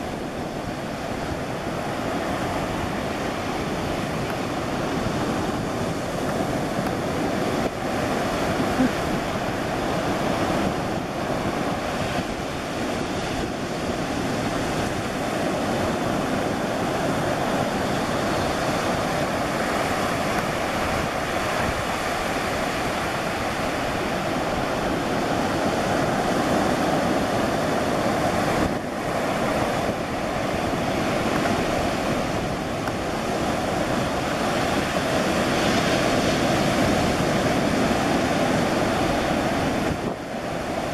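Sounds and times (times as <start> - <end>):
ocean surf breaking: 0.0 - 40.9
wind buffeting microphone: 0.0 - 40.9.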